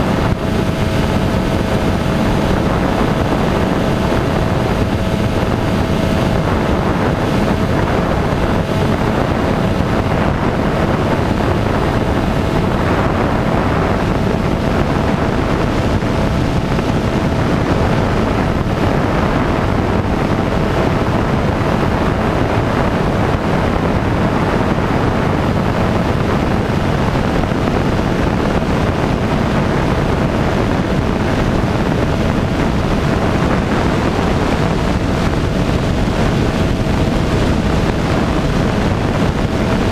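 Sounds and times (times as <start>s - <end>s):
light aircraft engine and propeller: 0.0s - 39.9s
wind rush on microphone: 0.0s - 39.9s.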